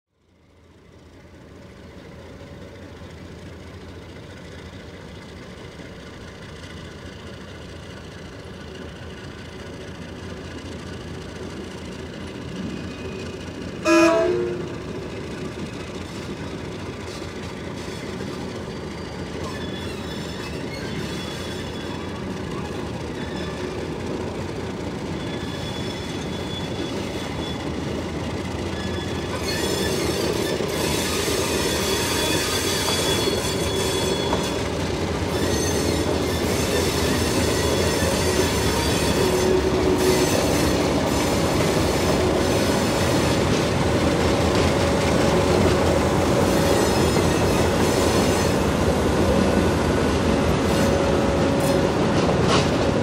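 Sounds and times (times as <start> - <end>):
diesel locomotive engines: 0.2 - 53.0
wheels squealing on rails: 1.6 - 53.0.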